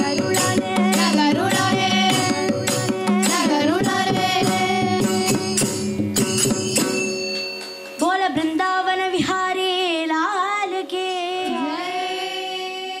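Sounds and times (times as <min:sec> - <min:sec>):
girls singing in unison: 0:00.0 - 0:05.4, 0:08.0 - 0:13.0.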